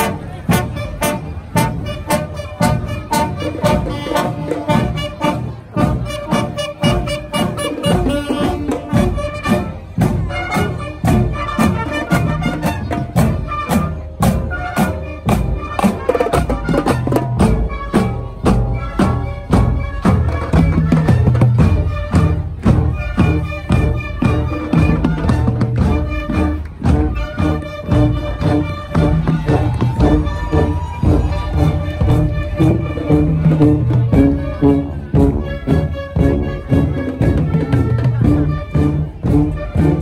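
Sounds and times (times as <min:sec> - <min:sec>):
brass playing a tune: 0:00.0 - 0:40.0
marching drums and cymbals: 0:00.0 - 0:40.0.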